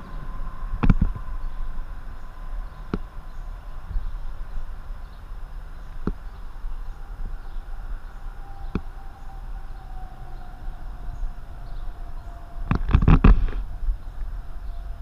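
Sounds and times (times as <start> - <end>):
distant outboard motor whine: 0.0 - 15.0
low rumble: 0.0 - 15.0.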